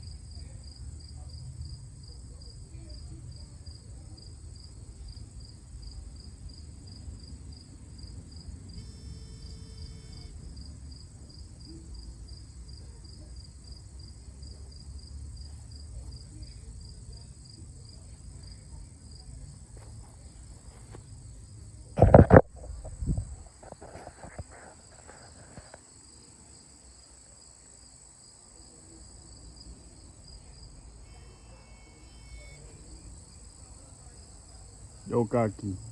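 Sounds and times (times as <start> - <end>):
insect chirping: 3.7 - 35.9.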